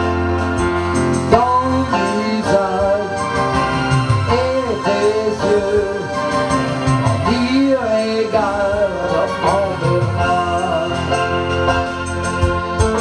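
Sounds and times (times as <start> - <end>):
electronic keyboard music: 0.0 - 13.0.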